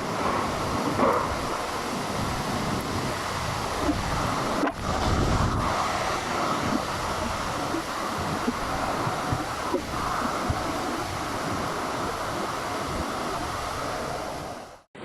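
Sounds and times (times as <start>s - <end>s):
storm rushing noise: 0.0s - 15.0s.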